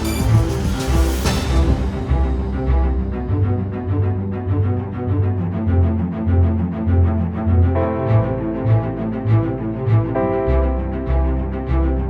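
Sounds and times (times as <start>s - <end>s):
music with pulsing bass line: 0.0s - 12.0s.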